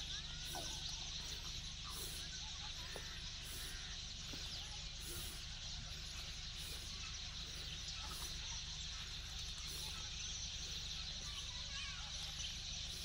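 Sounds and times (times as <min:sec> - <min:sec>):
faint chirps: 0:00.0 - 0:13.0.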